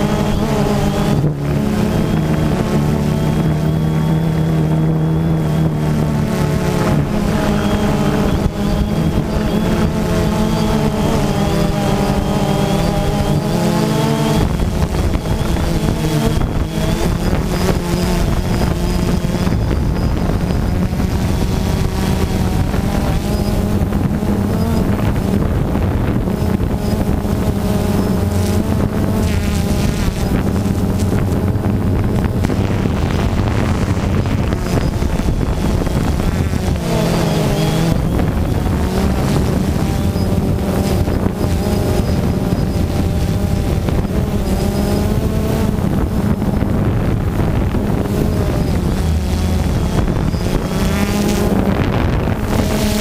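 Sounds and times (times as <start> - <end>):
drone propellers buzzing: 0.0 - 53.0
wind noise on microphone: 0.0 - 53.0.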